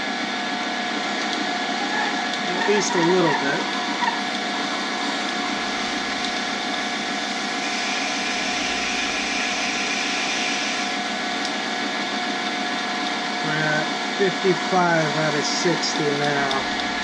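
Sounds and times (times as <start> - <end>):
lathe drilling whir: 0.0 - 17.0.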